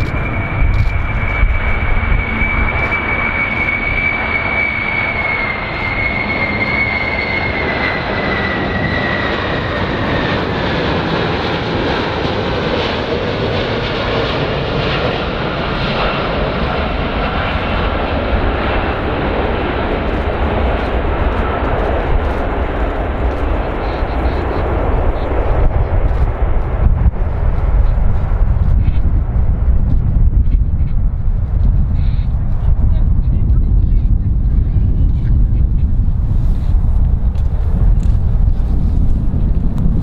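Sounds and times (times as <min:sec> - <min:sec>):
jet engines on landing approach: 0:00.0 - 0:40.0.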